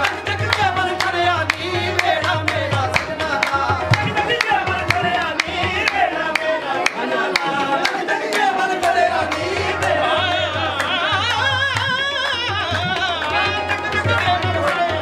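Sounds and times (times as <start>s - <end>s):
lead voice singing ornamented lines: 0.0s - 15.0s.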